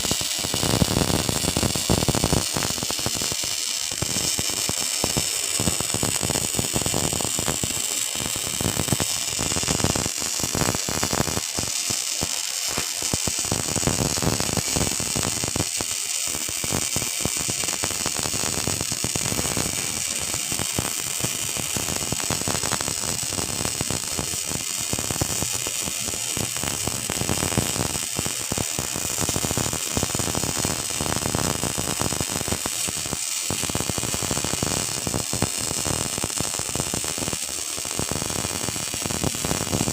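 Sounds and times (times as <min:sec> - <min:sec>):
welding arc crackling and hissing: 0:00.0 - 0:39.9.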